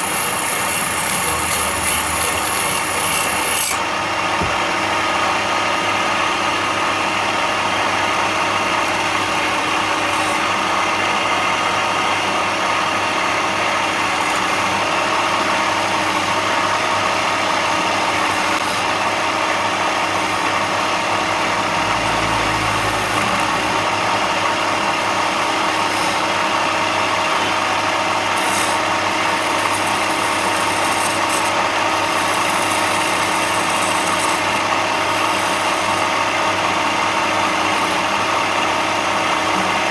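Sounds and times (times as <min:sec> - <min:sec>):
woodworking power tool humming: 0:00.0 - 0:39.9.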